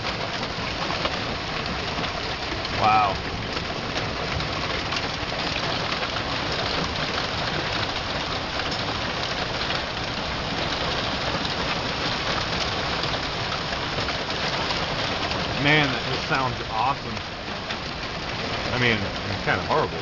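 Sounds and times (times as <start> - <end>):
hailstones clattering: 0.0 - 20.0.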